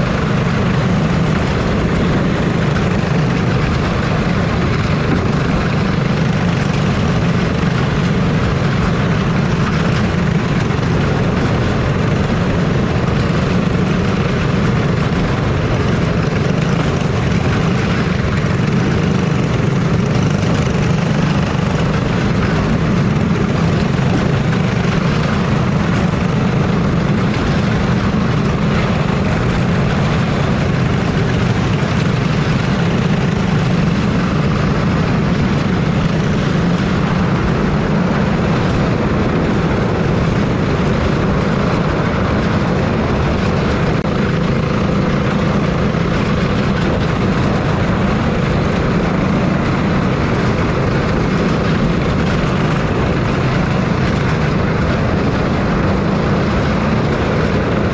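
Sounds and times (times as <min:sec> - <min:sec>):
car engine running at low revs: 0:00.0 - 0:57.9.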